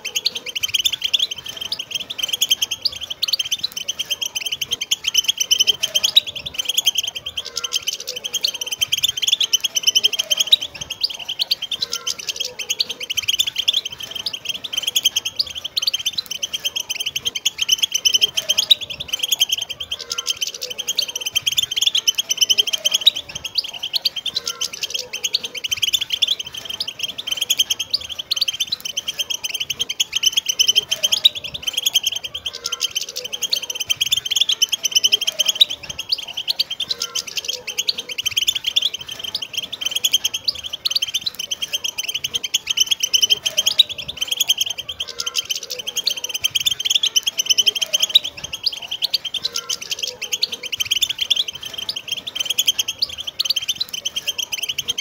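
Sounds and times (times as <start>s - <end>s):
finches twittering: 0.0s - 55.0s.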